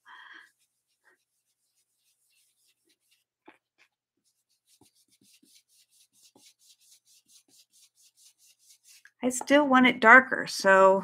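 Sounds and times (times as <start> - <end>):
brush rubbing on cardstock: 0.0 - 9.6.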